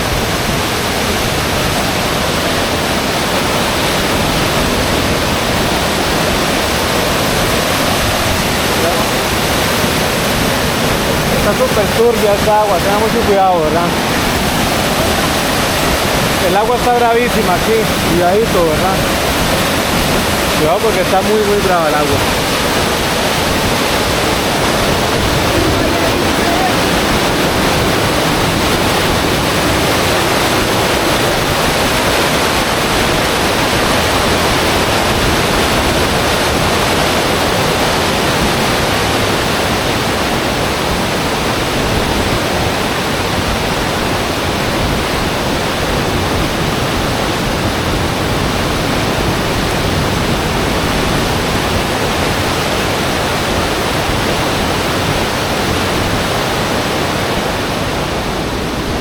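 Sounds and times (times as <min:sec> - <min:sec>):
whitewater rushing: 0:00.0 - 0:59.0.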